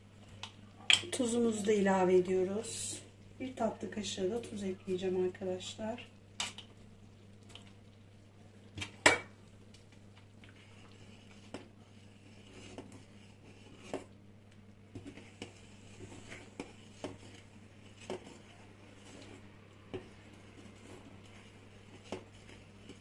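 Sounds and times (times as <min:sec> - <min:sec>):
wooden spoon stirring in metal pot: 0:00.4 - 0:23.0.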